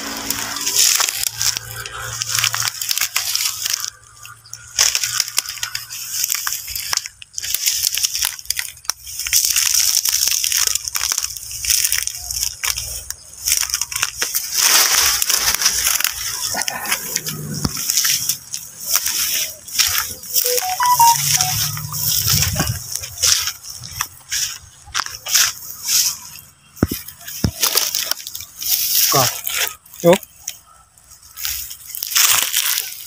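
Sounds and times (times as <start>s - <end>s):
footsteps crunching through brush: 0.0s - 30.4s
dry leaves rustling and crackling: 0.0s - 33.0s.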